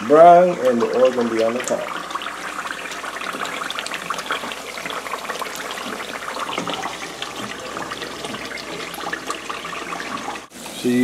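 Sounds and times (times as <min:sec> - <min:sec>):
cream bubbling in a pan: 0:00.0 - 0:11.0.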